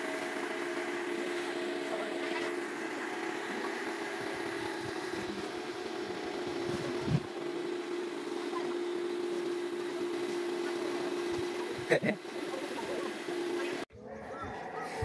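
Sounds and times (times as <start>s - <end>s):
small motor running steadily: 0.0s - 15.0s.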